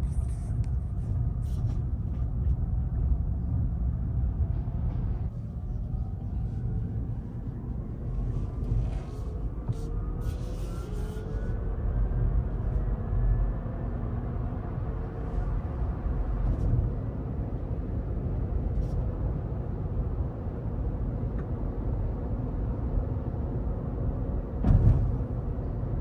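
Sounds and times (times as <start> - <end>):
road and tyre rumble: 0.0 - 26.0.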